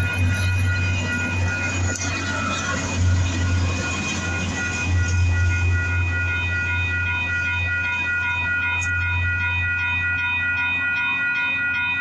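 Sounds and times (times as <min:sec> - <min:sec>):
train rumbling past: 0:00.0 - 0:10.9
crossing signal bell ringing: 0:00.0 - 0:12.0.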